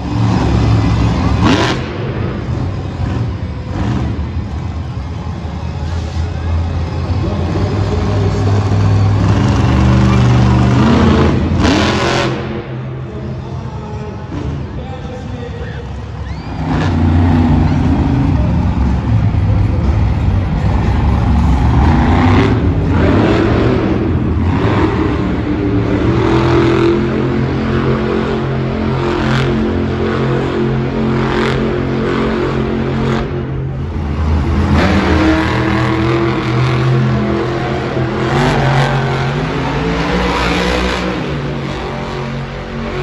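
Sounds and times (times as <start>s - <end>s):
truck engines revving: 0.0s - 43.0s.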